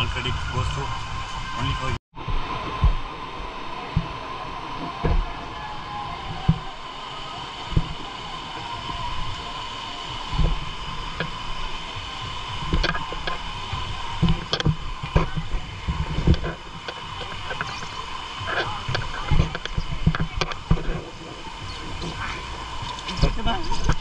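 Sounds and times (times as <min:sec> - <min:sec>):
water splashing against camera: 0:01.4 - 0:24.0.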